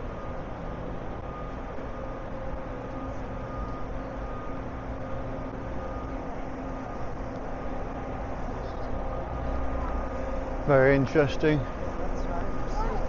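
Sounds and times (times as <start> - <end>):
faint engine hum: 0.0 - 13.0
road traffic rumble: 0.0 - 13.0.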